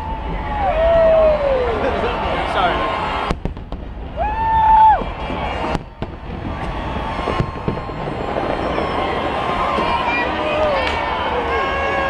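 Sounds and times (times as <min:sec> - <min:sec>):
crowd noise: 0:00.0 - 0:12.0
fireworks cracks and bangs: 0:00.0 - 0:12.0.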